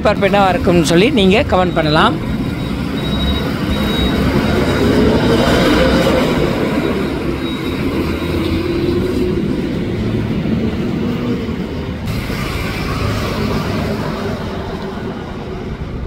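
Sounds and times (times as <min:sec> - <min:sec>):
bus diesel engine running: 0:00.0 - 0:16.0
street traffic: 0:00.0 - 0:16.0
motor scooter passing: 0:02.2 - 0:16.0.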